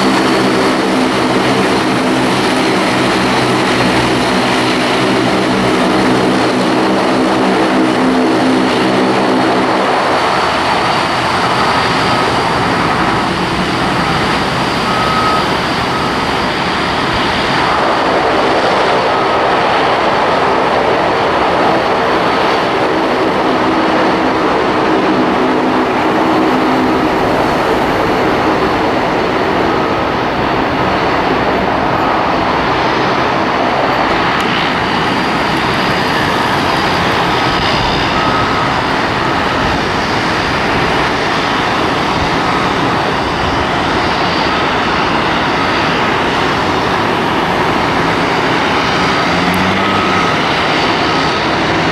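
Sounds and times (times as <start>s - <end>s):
airliner engine rush: 0.0s - 51.9s
high engine whine: 0.0s - 51.9s.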